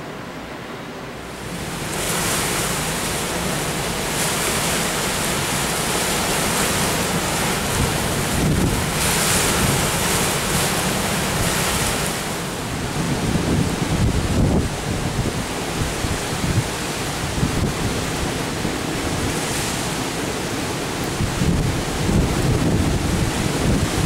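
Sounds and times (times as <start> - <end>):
hurricane-force wind: 1.1 - 24.0
heavy surf breaking on beach: 1.3 - 24.0
wind buffeting microphone: 1.3 - 24.0.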